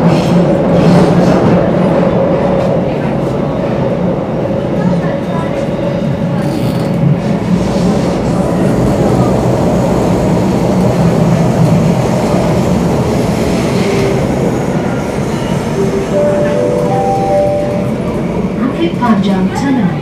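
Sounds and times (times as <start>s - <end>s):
train wheels on rail: 0.0s - 20.0s.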